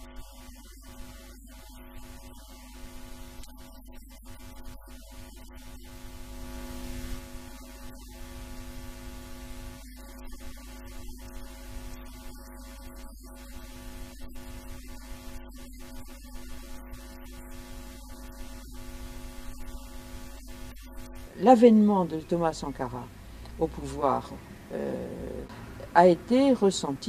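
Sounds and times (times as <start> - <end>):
electrical hum with hiss: 0.0 - 27.0.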